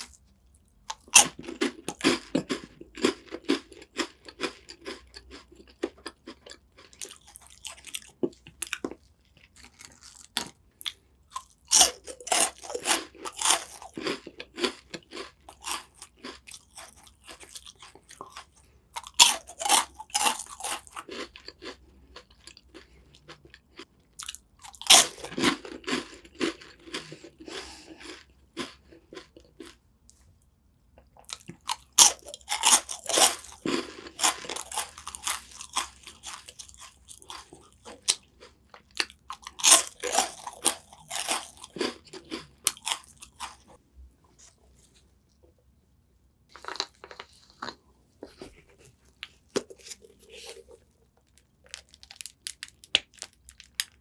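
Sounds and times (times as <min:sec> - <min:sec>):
crunching crackers: 0:00.0 - 0:29.8, 0:30.9 - 0:43.8, 0:46.5 - 0:54.0.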